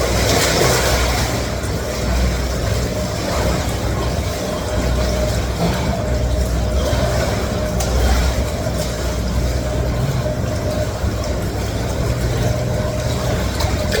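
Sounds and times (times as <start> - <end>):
churned water rushing: 0.0 - 14.0
swim machine rumbling hum: 0.0 - 14.0.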